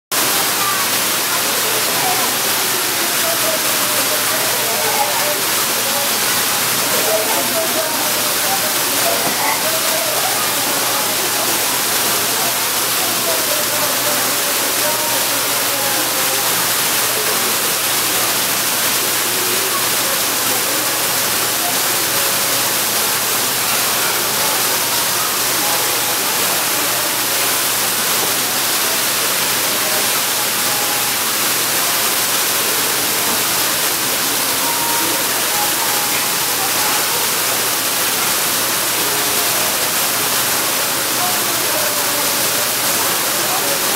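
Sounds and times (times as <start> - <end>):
waterfall splashing into pool: 0.1 - 43.9.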